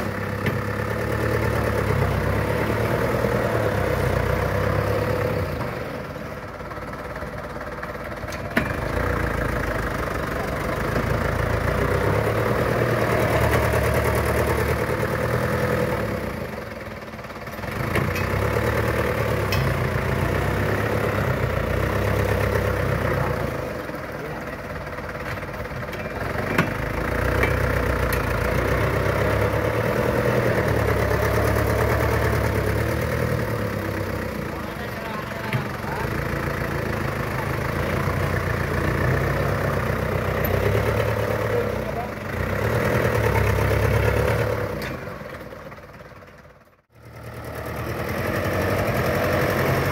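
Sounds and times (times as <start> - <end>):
truck engine revving: 0.0 - 46.2, 46.9 - 49.9.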